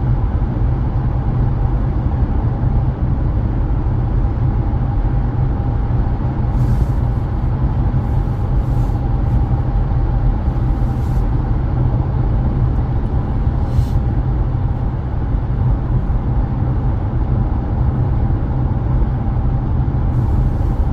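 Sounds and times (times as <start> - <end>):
car engine and road drone: 0.0 - 20.9
faint steady whine: 0.0 - 20.9.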